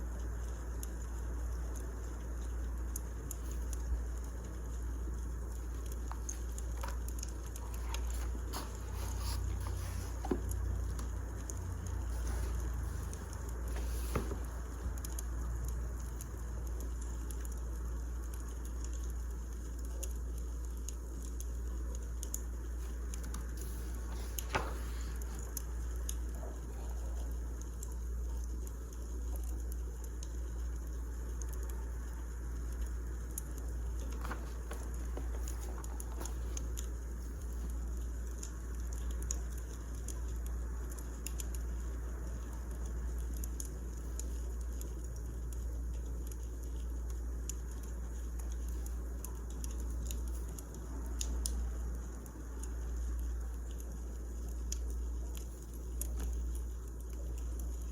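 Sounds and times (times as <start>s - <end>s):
firewood crackling and popping: 10.4s - 57.9s.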